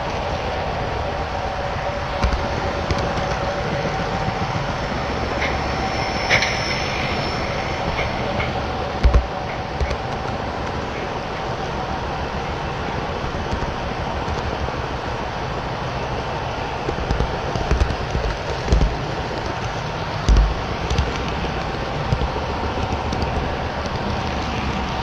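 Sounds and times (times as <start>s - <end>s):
model train motors humming: 0.0s - 25.0s.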